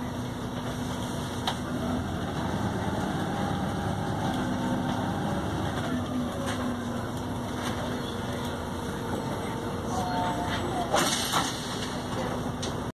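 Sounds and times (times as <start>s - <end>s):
bus diesel engine rumbling: 0.0s - 12.9s
faint engine whine: 0.0s - 12.9s.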